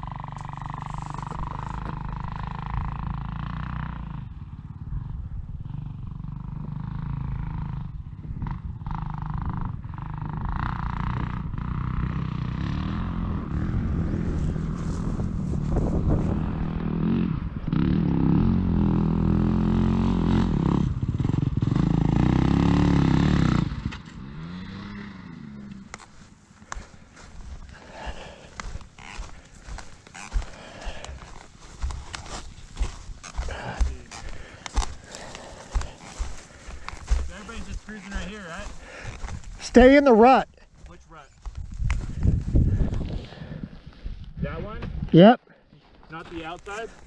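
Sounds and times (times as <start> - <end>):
dirt bike engine revving: 0.0 - 40.4.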